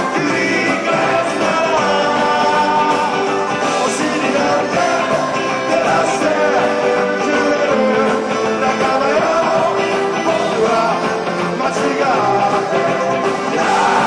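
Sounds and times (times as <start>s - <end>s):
live band playing: 0.0s - 14.0s
man singing: 0.0s - 14.0s.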